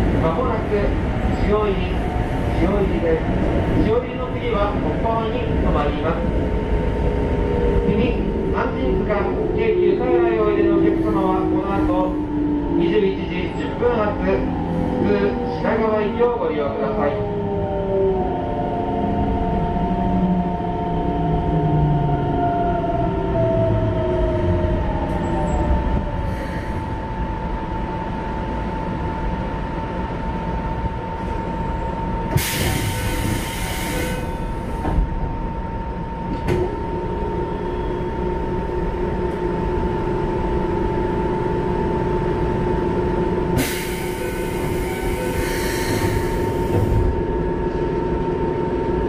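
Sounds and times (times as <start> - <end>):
train running rumble: 0.0 - 49.0.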